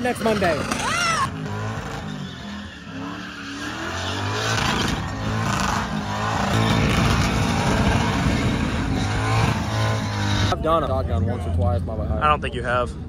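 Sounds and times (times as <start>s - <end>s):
diesel truck engine revving: 0.0s - 10.6s.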